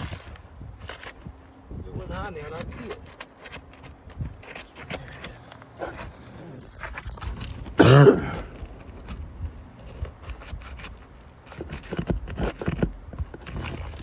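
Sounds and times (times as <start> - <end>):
roof shingles scraping and clicking: 0.0 - 14.0.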